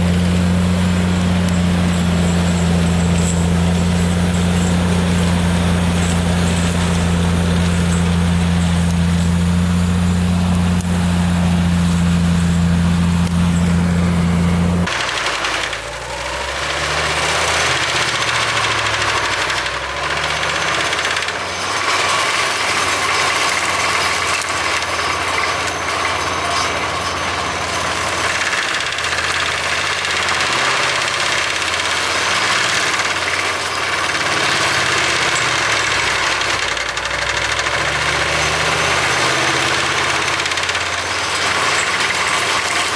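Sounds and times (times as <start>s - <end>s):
tractor engine with mulcher: 0.0s - 42.9s.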